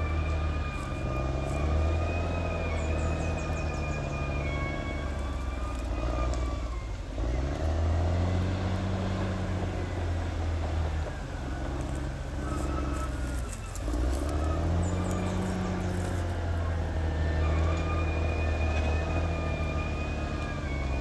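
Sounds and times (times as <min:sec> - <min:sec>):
bulldozer diesel engine revving: 0:00.0 - 0:21.0.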